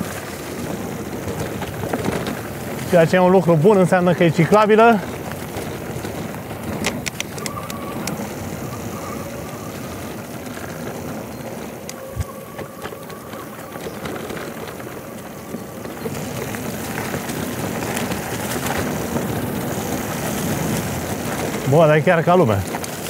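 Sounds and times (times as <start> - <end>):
tyres rumbling on gravel: 0.0 - 23.0
bike rattling clicks: 0.1 - 23.0.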